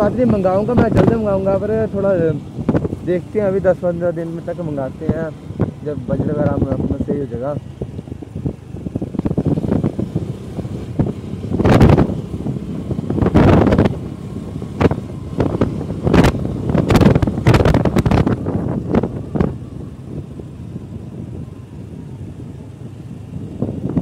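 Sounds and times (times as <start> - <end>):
road noise: 0.0 - 24.0
wind buffeting microphone: 0.0 - 24.0.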